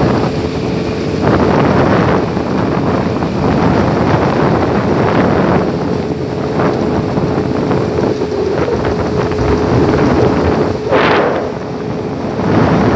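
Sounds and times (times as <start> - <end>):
outboard motor running: 0.0 - 12.9
rush of wind or spray: 0.0 - 12.9
wind buffeting microphone: 0.0 - 12.9.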